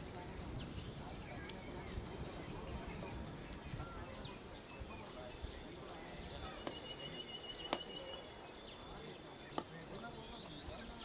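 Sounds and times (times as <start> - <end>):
bird chirps: 0.3 - 11.0.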